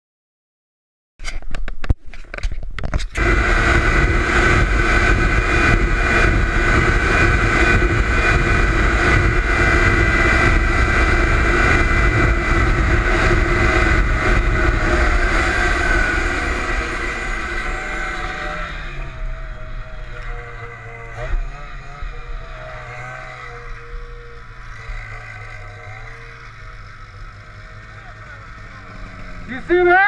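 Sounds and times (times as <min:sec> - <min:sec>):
snowmobile engine running hard: 0:03.2 - 0:30.0.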